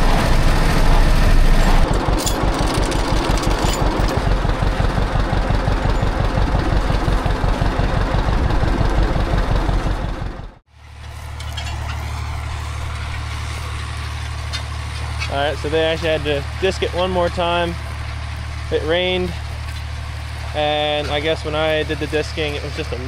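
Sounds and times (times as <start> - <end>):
low engine hum: 0.0 - 23.0
tractor engine running under load: 0.0 - 23.0.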